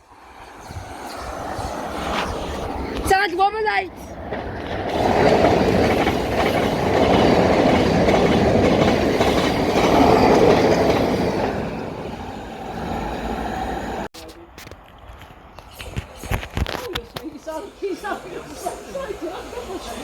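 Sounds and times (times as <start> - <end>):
electric train running: 0.2 - 14.1, 17.5 - 20.0.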